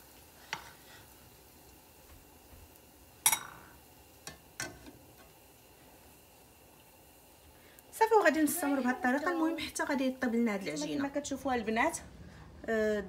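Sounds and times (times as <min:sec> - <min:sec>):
dough sizzling in oil: 0:00.0 - 0:12.0.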